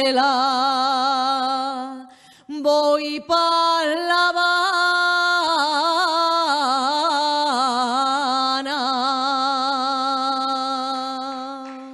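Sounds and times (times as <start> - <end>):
woman singing unaccompanied: 0.0 - 11.9.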